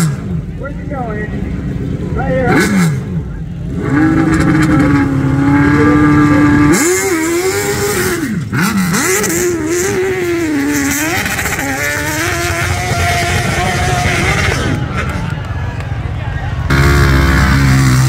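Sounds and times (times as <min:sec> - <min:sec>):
dirt bike engine revving: 0:01.5 - 0:15.4, 0:16.6 - 0:18.0.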